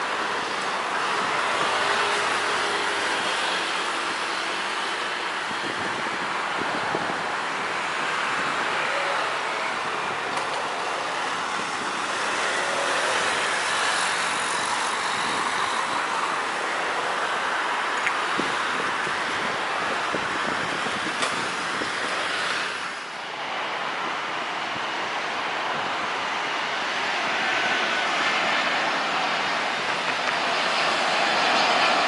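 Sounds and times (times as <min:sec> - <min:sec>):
jet engines at takeoff power: 0:00.0 - 0:32.0
jet on approach: 0:00.0 - 0:32.0.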